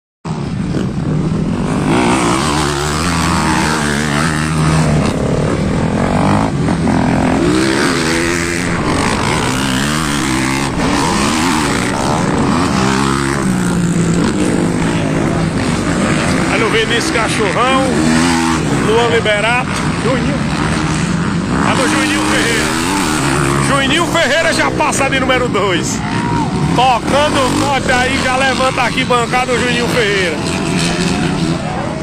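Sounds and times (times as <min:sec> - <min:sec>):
dirt bike engines revving: 0:00.3 - 0:32.0.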